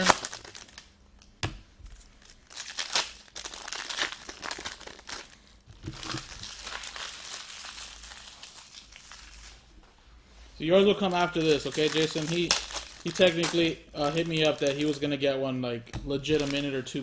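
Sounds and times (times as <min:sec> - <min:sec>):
plastic wrapping crinkling and tearing: 0:00.0 - 0:00.9, 0:01.9 - 0:09.6, 0:10.7 - 0:15.2, 0:16.2 - 0:17.0.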